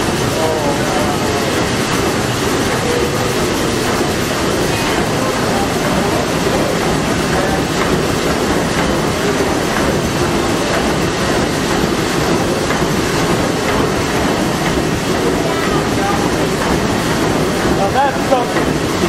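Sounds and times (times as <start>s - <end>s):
steam engine mechanical clatter: 0.0s - 19.0s.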